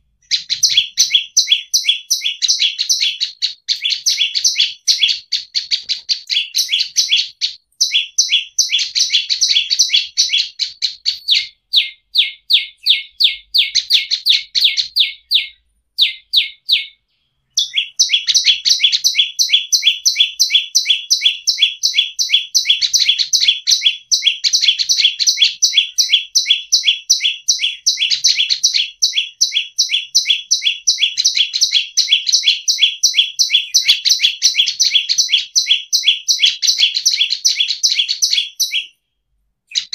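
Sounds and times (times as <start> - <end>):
bird chipping: 0.0 - 39.0.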